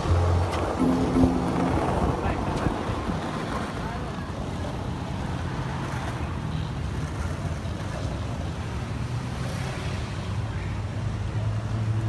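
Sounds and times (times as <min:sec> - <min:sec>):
skateboard wheels rolling on asphalt: 0:00.0 - 0:10.4
city traffic engines: 0:00.0 - 0:12.0.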